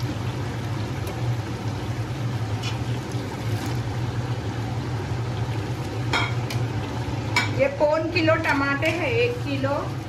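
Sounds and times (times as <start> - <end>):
gas stove hum and hiss: 0.0 - 10.0.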